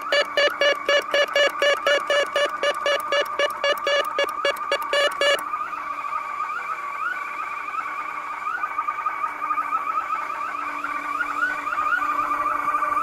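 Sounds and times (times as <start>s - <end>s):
car alarm siren warbling: 0.0s - 13.0s.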